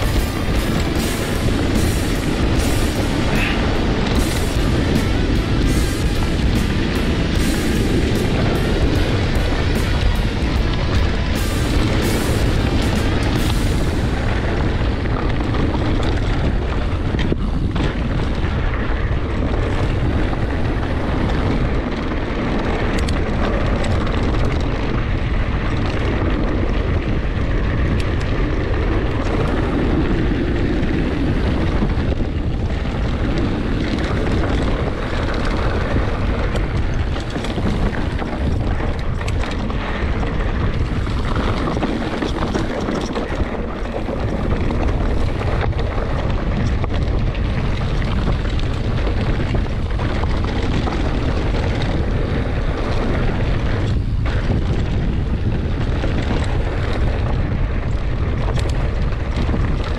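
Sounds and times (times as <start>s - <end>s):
bike tyres crunching over stones: 0.0s - 59.9s
wind buffeting microphone: 0.0s - 59.9s.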